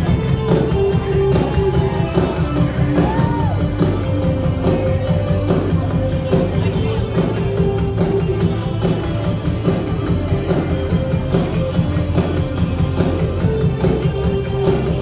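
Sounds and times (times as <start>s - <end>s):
drum beat: 0.0s - 15.0s
heavy bass: 0.0s - 15.0s
live rock band playing: 0.0s - 15.0s.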